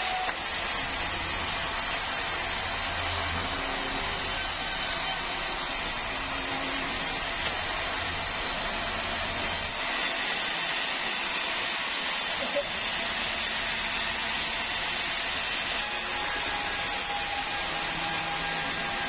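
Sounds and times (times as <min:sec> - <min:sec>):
power saw cutting timber: 0:00.0 - 0:19.0.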